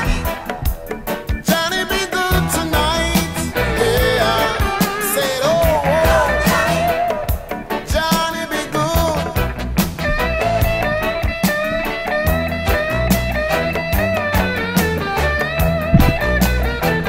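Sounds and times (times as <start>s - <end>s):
guitar rock music with drums: 0.0s - 17.0s.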